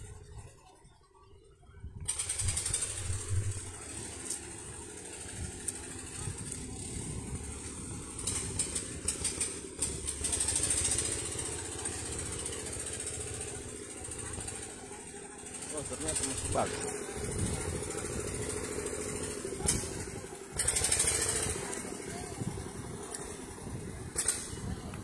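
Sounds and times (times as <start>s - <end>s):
engine running steadily: 1.8s - 25.0s.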